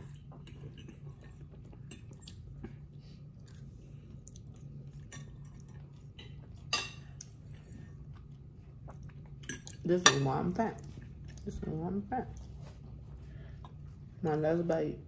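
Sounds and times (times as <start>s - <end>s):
people chewing food: 0.0s - 9.9s, 10.8s - 14.2s
faint low hum: 0.0s - 15.0s.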